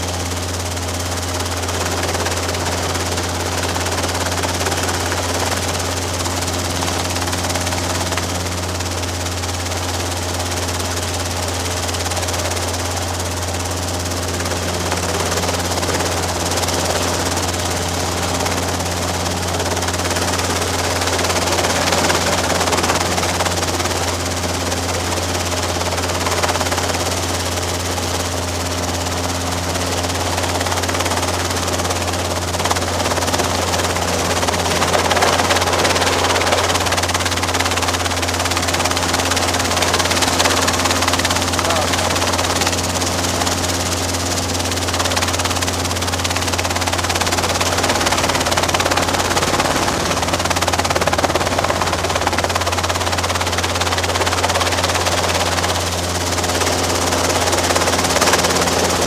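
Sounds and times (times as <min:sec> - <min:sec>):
helicopter rotor and engine drone: 0:00.0 - 0:59.0.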